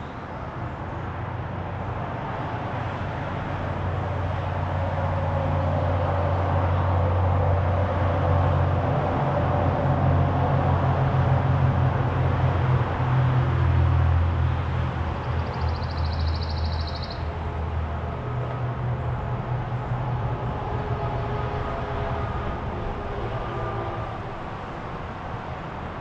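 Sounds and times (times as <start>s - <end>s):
low rumble of passing vehicles: 0.0s - 26.0s.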